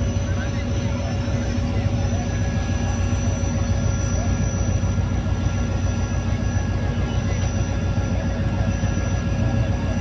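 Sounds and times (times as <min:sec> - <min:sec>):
locomotive engine rumble: 0:00.0 - 0:10.0.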